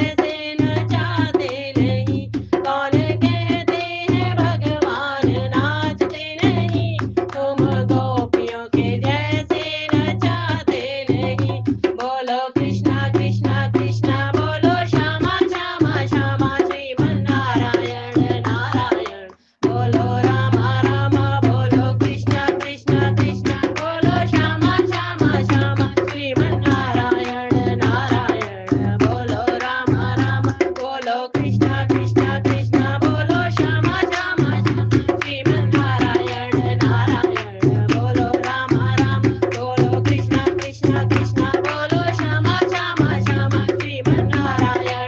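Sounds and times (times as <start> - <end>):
tabla-like drum beat: 0.0 - 45.0.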